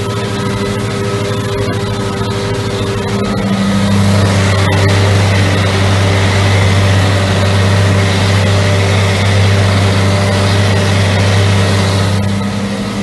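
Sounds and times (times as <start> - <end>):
mower cutting grass: 0.0 - 13.0
tractor engine running: 0.0 - 13.0.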